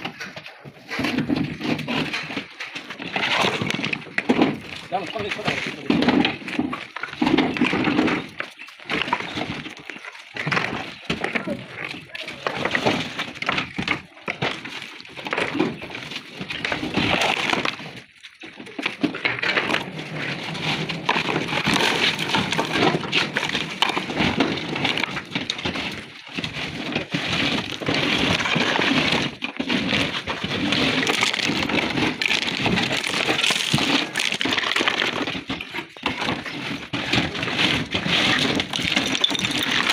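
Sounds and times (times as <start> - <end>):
stone slabs clattering together: 0.0 - 39.9.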